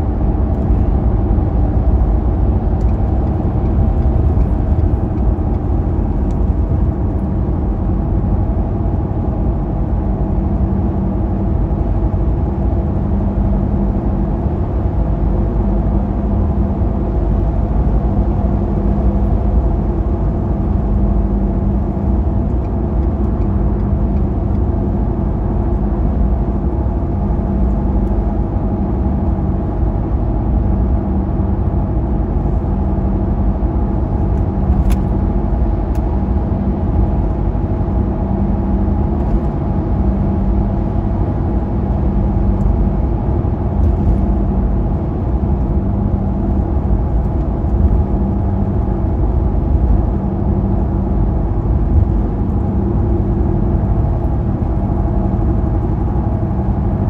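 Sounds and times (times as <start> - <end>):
car tyre and engine drone: 0.0 - 57.0.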